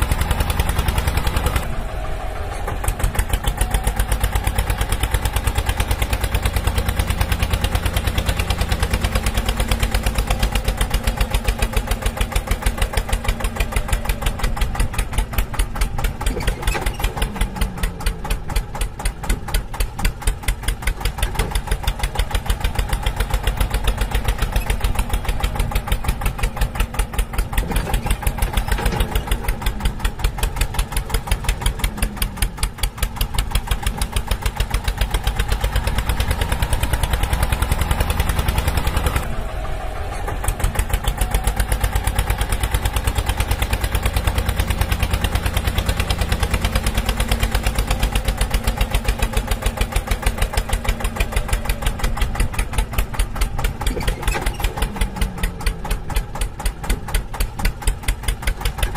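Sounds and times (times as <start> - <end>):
tractor engine chugging: 0.0 - 58.9.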